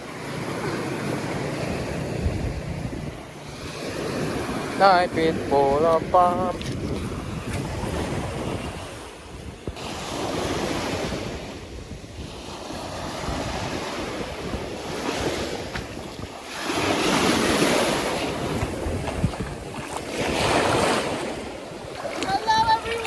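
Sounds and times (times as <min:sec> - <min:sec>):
sea waves washing onto beach: 0:00.0 - 0:23.0
wind buffeting microphone: 0:00.0 - 0:23.0.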